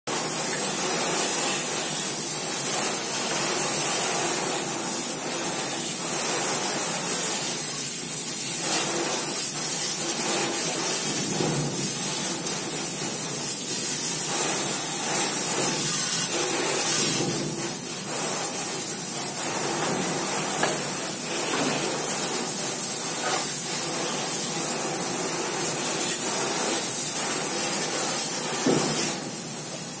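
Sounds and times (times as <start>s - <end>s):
hose nozzle spraying water: 0.1s - 30.0s.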